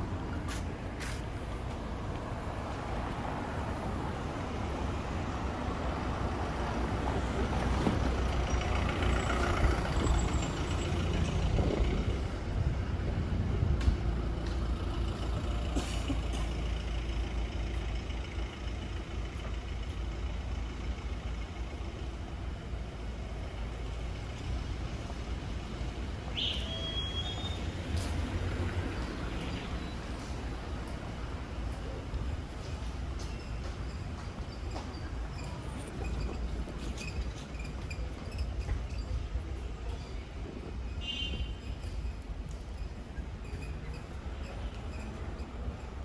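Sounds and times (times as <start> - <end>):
passing traffic rumble: 0.0 - 46.0.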